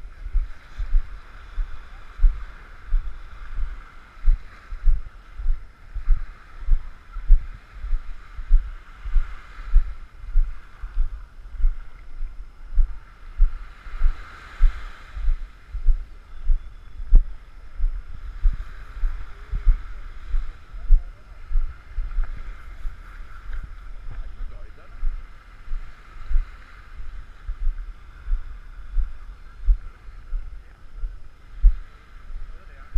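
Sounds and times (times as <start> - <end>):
small waves washing shore: 0.0 - 16.6, 17.2 - 32.9
footsteps on sand: 0.0 - 32.9.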